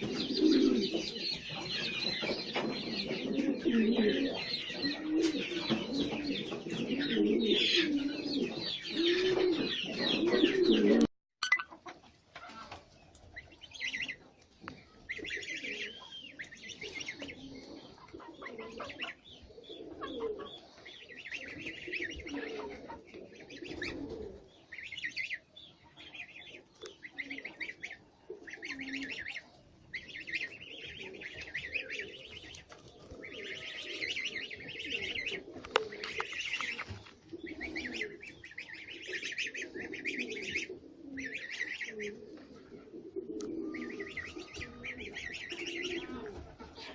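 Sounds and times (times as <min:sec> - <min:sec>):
pigeons cooing: 0:00.0 - 0:11.1, 0:13.6 - 0:46.9
small birds chirping: 0:00.0 - 0:46.9.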